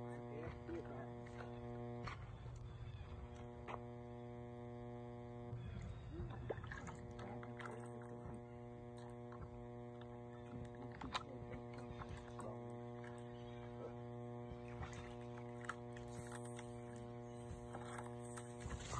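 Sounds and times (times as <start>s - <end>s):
low hum with overtones: 0.0s - 18.9s.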